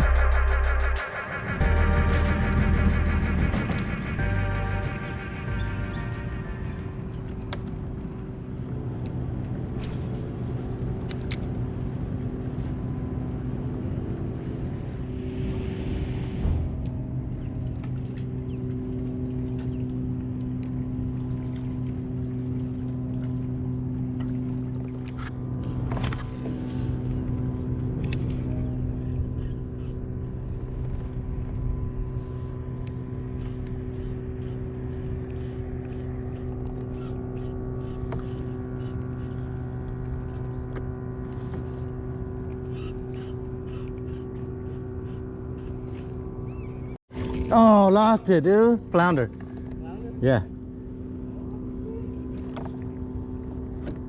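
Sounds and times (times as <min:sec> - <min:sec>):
low machinery hum: 0:00.0 - 0:54.0
low mechanical drone: 0:00.0 - 0:54.0.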